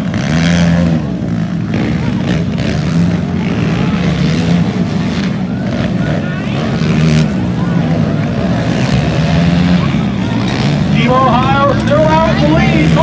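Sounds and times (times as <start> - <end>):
quad engines droning: 0.0 - 13.0.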